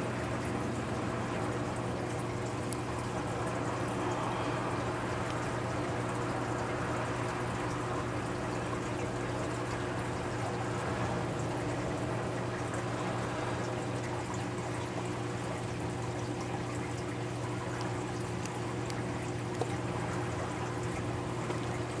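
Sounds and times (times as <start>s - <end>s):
low pump hum: 0.0s - 22.0s
water trickling: 0.0s - 22.0s.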